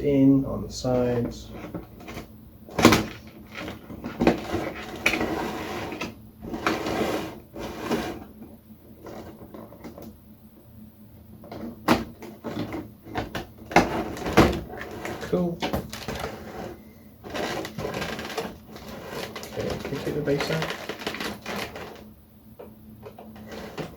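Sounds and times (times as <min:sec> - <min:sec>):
plastic and cardboard rustling: 0:00.8 - 0:10.2, 0:11.4 - 0:23.9.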